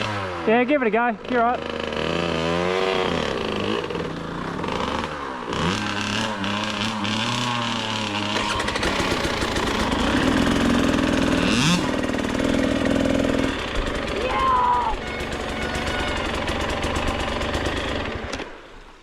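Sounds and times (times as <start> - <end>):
dirt bike engine revving: 0.0 - 18.7.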